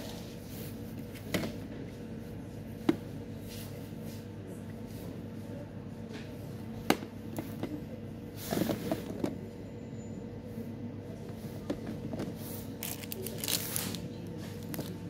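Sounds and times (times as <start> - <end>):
shop background hum: 0.0 - 15.0.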